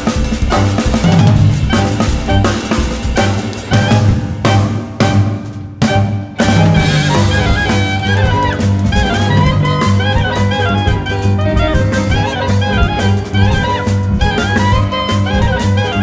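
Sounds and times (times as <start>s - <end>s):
drum hits: 0.0s - 15.5s
jazz ensemble music: 0.0s - 16.0s
clarinet and violin melody: 0.4s - 16.0s.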